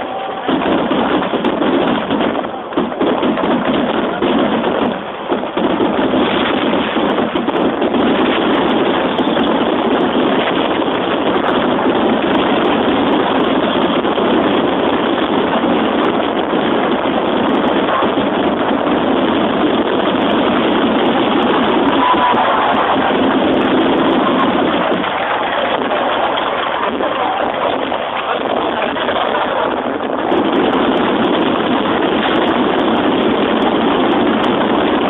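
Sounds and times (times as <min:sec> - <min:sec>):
fireworks barrage rumbling: 0:00.0 - 0:35.0.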